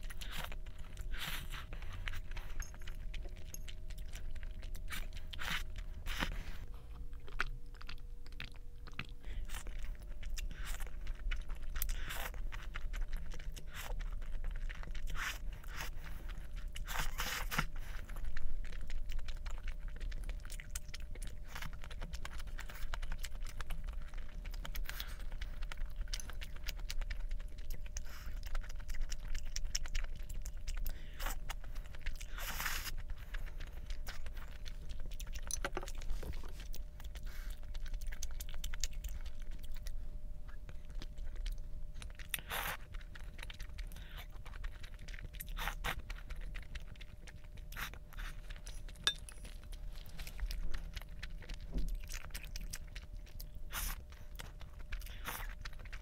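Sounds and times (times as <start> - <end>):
person chewing food: 0.0 - 56.0
steady low hum: 0.0 - 56.0.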